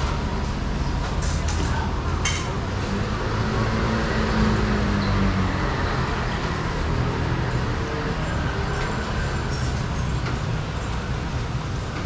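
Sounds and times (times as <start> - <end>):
busy street rumble: 0.0 - 12.0.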